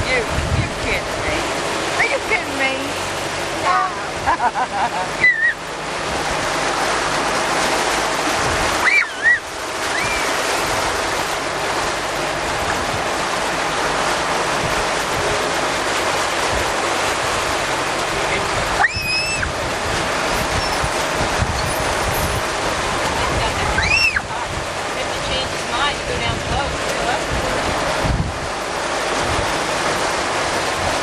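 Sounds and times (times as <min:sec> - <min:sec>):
low engine hum: 0:00.0 - 0:31.0
wind and water rushing: 0:00.0 - 0:31.0.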